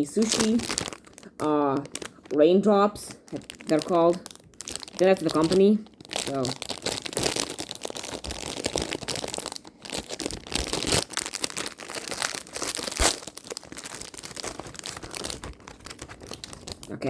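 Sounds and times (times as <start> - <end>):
candy wrapper crinkling: 0.0 - 17.0.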